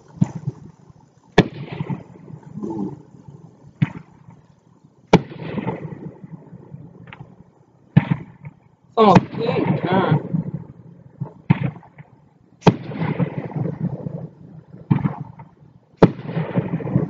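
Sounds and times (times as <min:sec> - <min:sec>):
firework bangs: 0:00.0 - 0:03.0, 0:03.7 - 0:04.5, 0:05.1 - 0:17.0.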